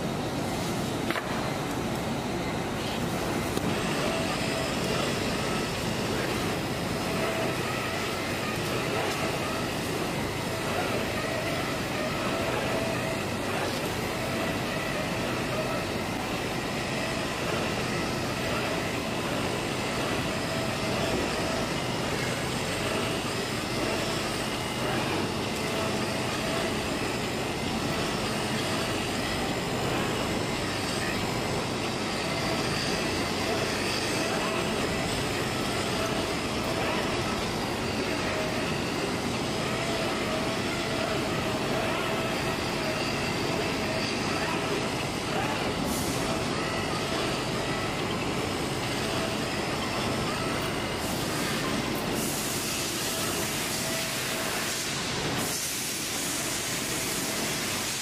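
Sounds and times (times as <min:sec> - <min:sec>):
faint wavering machine whine: 0:00.0 - 0:58.0
vacuum blowers droning: 0:00.0 - 0:58.0.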